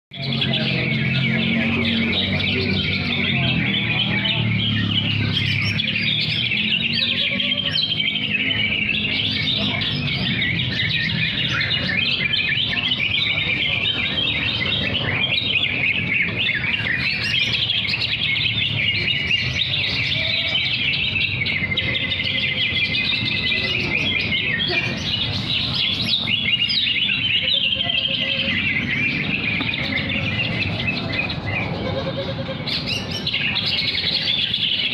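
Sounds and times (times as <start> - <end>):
birds singing chattering song: 0.1 - 34.9.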